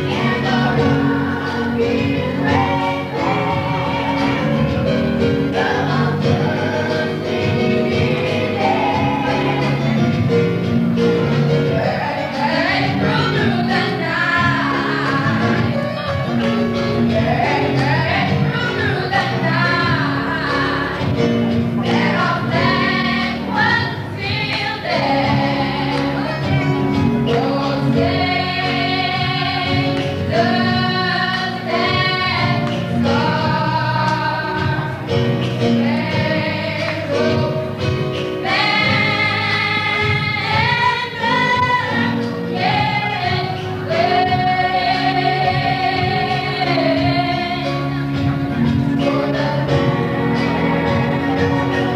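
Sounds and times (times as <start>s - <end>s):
choir singing gospel: 0.0s - 51.9s.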